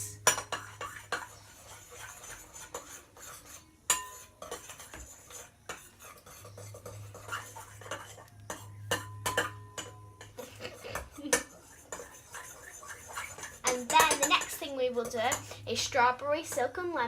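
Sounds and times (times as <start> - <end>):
utensil stirring slime in a bowl: 0.1 - 17.0.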